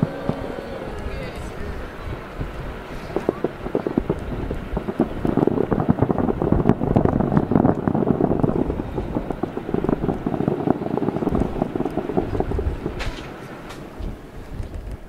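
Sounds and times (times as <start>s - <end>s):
distant fireworks crackling and popping: 0.0s - 15.0s.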